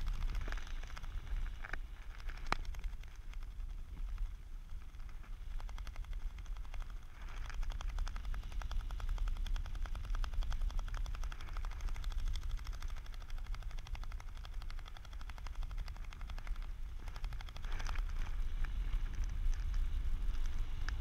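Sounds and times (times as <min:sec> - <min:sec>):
sharp clicks: 0:00.0 - 0:21.0
wind buffeting microphone: 0:00.0 - 0:21.0.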